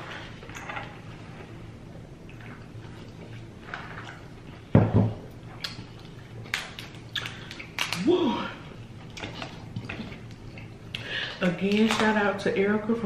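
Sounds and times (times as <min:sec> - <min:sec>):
wet eating sounds: 0:00.0 - 0:12.5.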